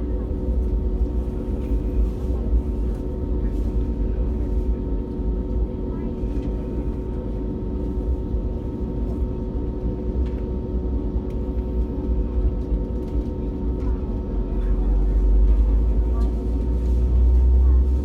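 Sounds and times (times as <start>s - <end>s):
airliner engines rumbling: 0.0s - 18.0s
constant hum: 0.0s - 18.0s.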